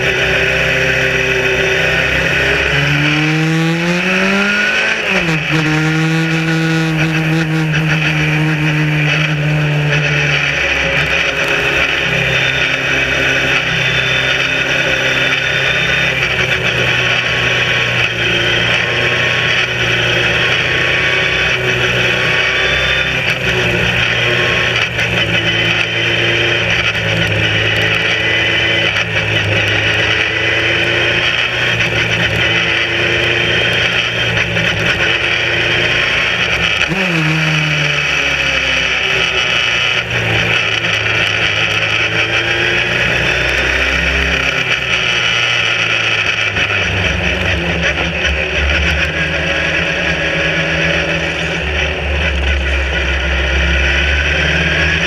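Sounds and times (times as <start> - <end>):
racing car engine: 0.0 - 55.0.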